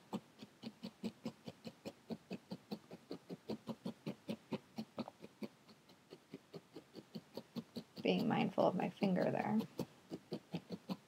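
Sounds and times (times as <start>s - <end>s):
felting needle poking wool: 0.0s - 11.0s.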